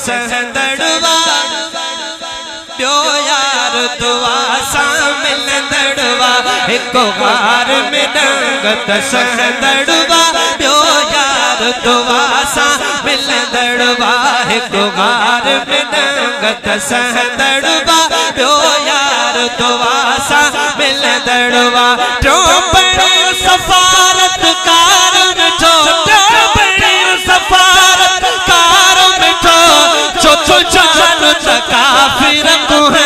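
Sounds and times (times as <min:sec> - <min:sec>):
man chanting into microphone: 0:00.0 - 0:33.0.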